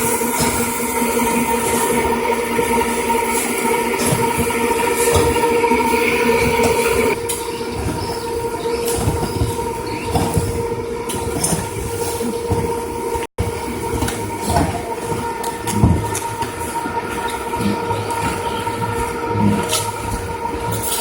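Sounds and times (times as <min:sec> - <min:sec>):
machine hum: 0:00.0 - 0:21.0
machine knocks and clatter: 0:00.0 - 0:21.0.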